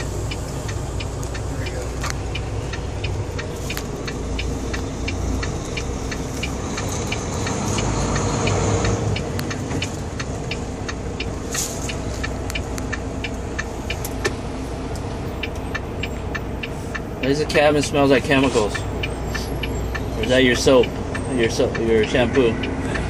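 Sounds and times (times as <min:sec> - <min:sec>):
regular ticking: 0:00.0 - 0:23.0
truck diesel engine running: 0:00.0 - 0:23.0.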